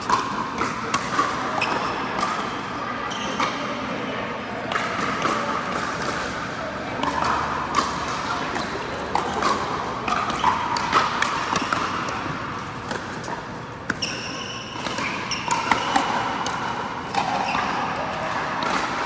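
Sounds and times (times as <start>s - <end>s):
indoor hall noise: 0.0s - 19.0s.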